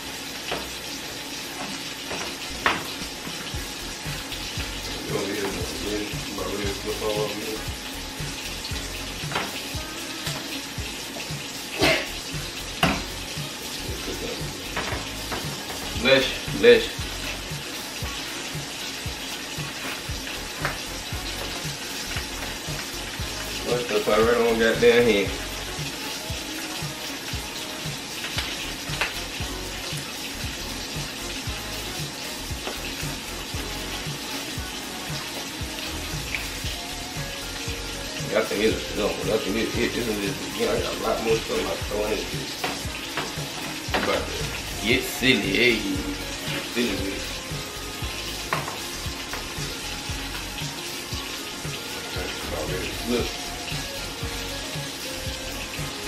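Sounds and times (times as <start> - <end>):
grease sizzling in frying pans: 0.0 - 56.0
faint music beat: 1.6 - 56.0.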